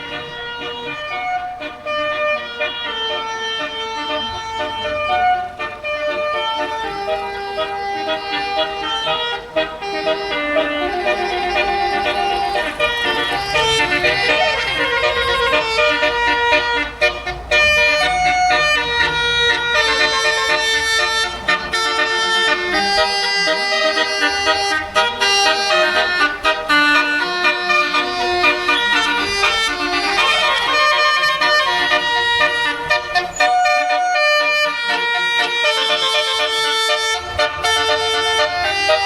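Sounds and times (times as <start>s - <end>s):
bus engine rumbling: 0.0s - 39.0s
multi-tone bus horn tune: 0.0s - 39.0s.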